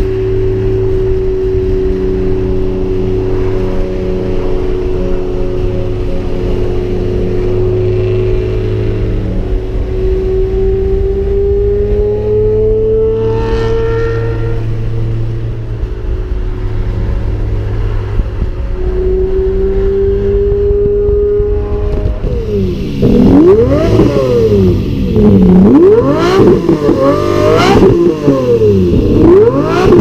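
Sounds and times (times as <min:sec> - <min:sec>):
sports car engine droning: 0:00.0 - 0:30.0.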